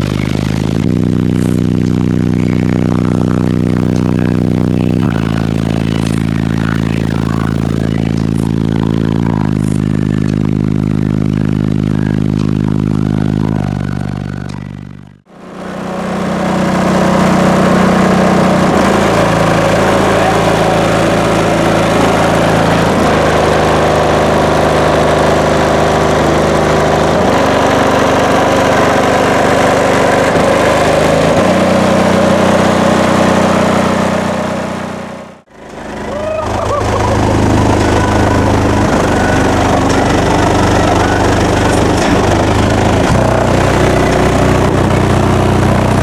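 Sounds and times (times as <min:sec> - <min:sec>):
dense buzz: 0:00.0 - 0:46.0
loud subwoofer bass notes: 0:00.0 - 0:46.0.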